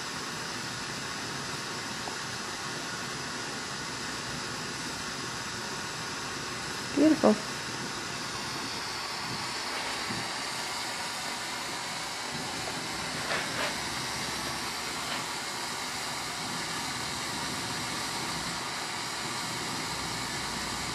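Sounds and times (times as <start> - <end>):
torch flame hissing: 0.0 - 20.9.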